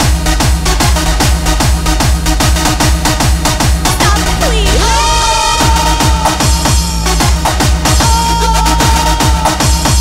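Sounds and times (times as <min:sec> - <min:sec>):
electronic dance music: 0:00.0 - 0:10.0
fast kick drum beat: 0:00.0 - 0:10.0.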